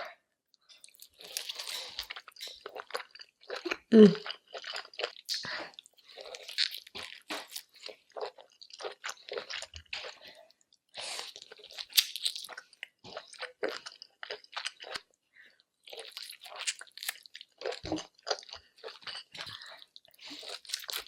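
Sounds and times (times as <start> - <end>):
wet chewing and crunching: 0.6 - 21.0.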